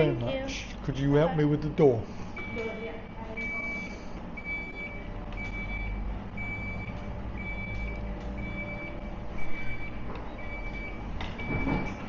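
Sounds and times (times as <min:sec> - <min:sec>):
reversing alarm beeping: 0:02.3 - 0:12.0.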